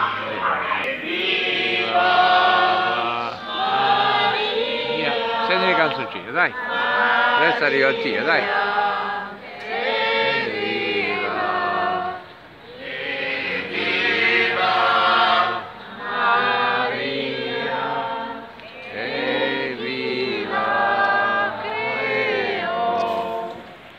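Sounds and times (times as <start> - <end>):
crowd singing a hymn: 0.0 - 23.9.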